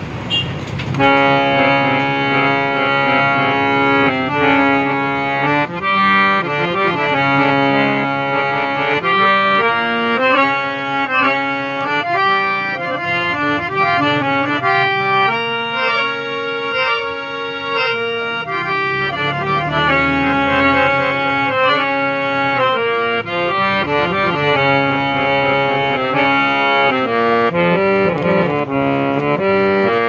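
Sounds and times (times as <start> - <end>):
harmonium playing a melody: 0.0 - 30.0.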